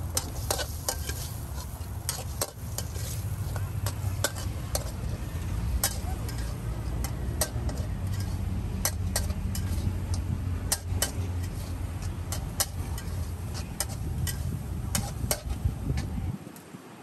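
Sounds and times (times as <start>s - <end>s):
metal spatula scraping a wok: 0.0s - 16.2s
steady low rumble: 0.0s - 16.4s.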